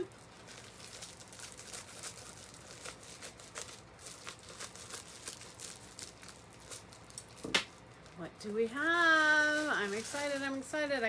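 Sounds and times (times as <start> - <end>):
plastic mailer crinkling and tearing: 0.0 - 11.0.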